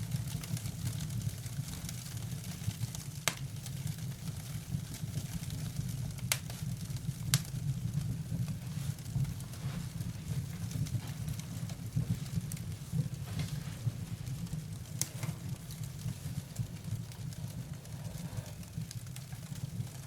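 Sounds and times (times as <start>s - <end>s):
fire crackling: 0.0s - 20.0s
fire popping: 0.0s - 20.0s.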